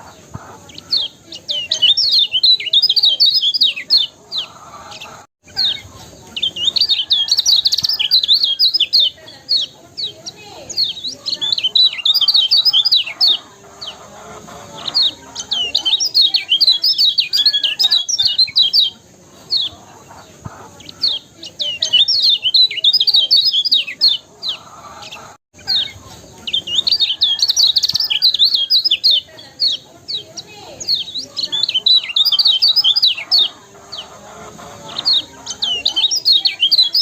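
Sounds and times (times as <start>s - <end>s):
small bird twittering song: 0.0s - 37.0s.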